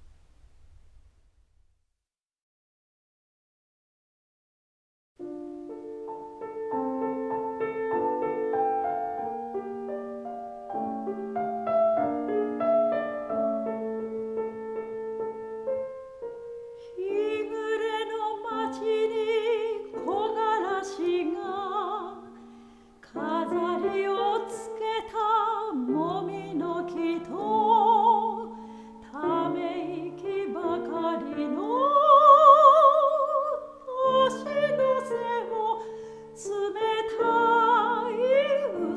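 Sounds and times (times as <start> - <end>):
piano: 5.2 - 38.9
soprano singing: 5.3 - 38.9.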